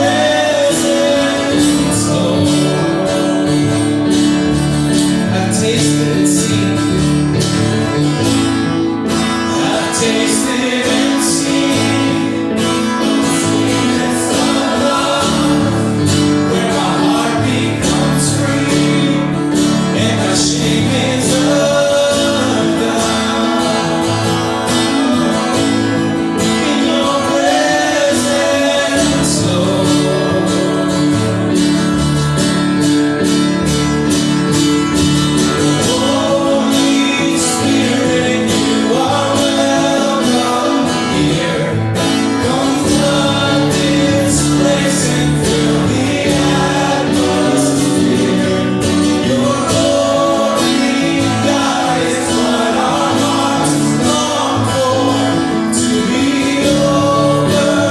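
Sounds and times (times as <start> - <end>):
group singing: 0.0 - 57.9
guitar accompaniment: 0.0 - 57.9.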